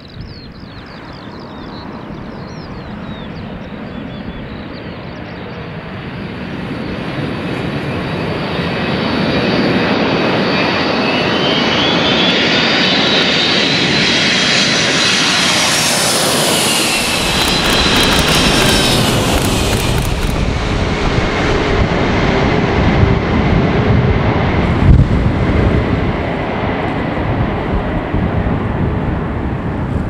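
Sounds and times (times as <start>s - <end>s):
high engine whine: 0.0s - 30.0s
jet engines passing overhead: 0.0s - 30.0s.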